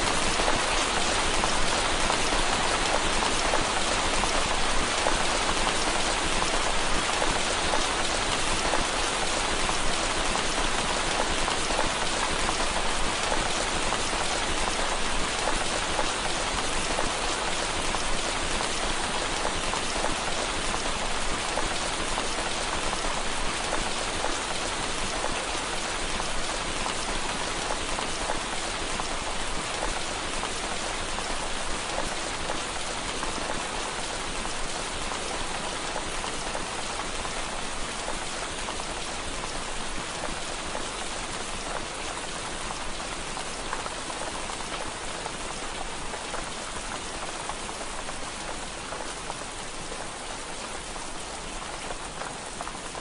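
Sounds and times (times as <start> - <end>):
rain on window glass: 0.0 - 53.0.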